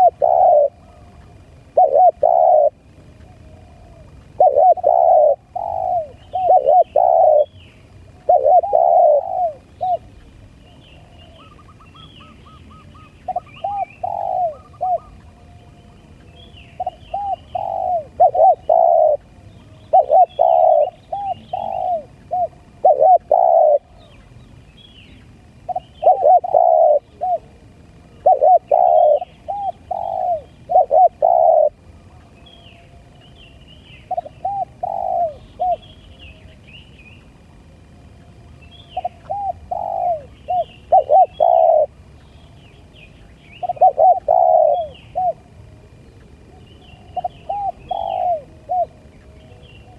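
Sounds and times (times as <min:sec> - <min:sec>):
dove cooing: 0:00.0 - 0:24.3, 0:25.6 - 0:36.6, 0:38.1 - 0:42.8, 0:43.5 - 0:49.9
small birds chirping: 0:00.0 - 0:49.9.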